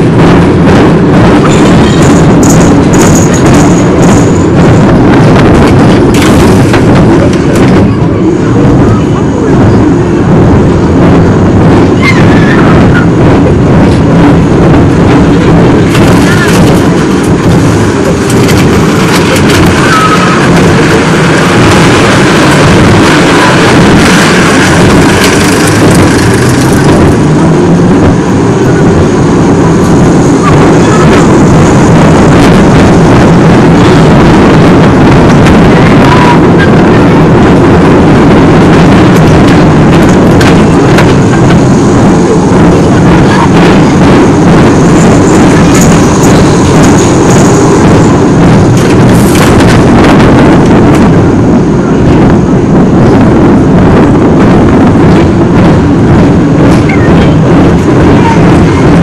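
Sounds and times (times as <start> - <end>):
coaster car rumbling on track: 0.0 - 59.0
wind buffeting microphone: 0.0 - 59.0.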